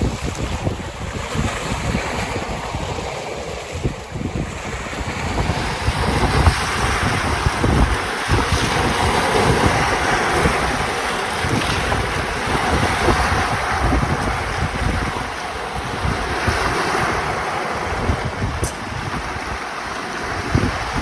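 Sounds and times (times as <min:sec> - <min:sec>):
waves washing in: 0:00.0 - 0:21.0
wind buffeting microphone: 0:00.0 - 0:21.0.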